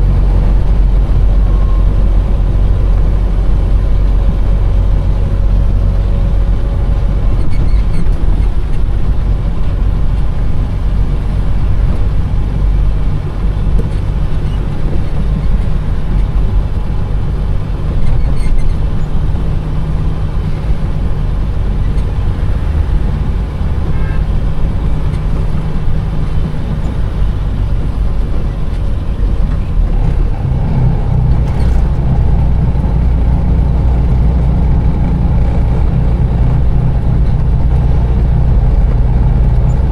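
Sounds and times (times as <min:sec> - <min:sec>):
diesel truck engine running: 0:00.0 - 0:39.9
traffic noise: 0:00.0 - 0:39.9.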